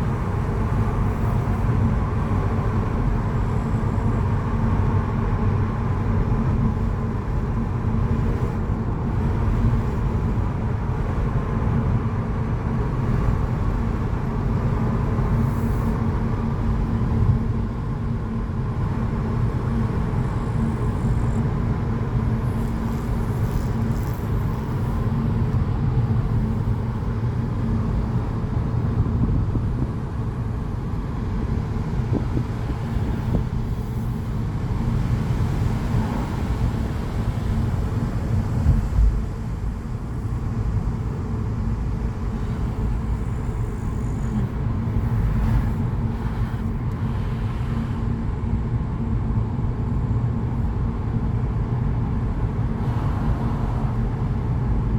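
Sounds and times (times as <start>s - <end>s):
car driving road noise: 0.0s - 54.9s.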